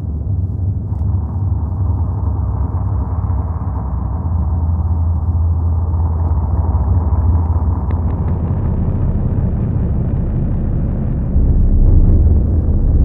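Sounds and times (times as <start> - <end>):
noise drone music: 0.0 - 13.0.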